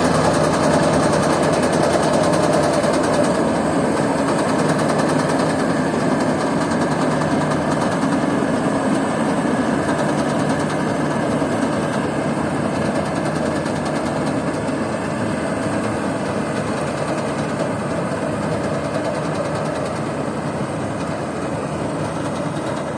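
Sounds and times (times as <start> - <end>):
combine harvester running: 0.0 - 22.9.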